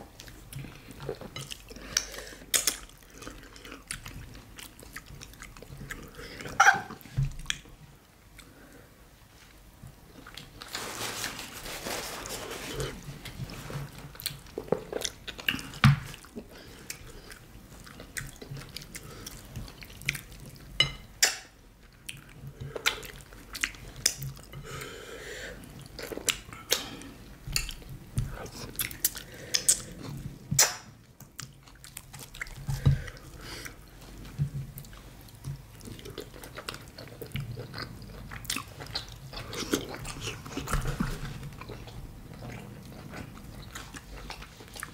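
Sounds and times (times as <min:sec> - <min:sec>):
wet chewing and mouth sounds: 0:00.1 - 0:07.7, 0:12.7 - 0:25.0, 0:25.6 - 0:44.9.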